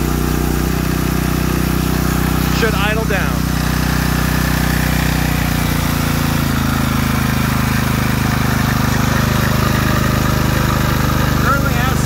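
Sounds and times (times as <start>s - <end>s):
portable generator engine running: 0.0s - 12.0s.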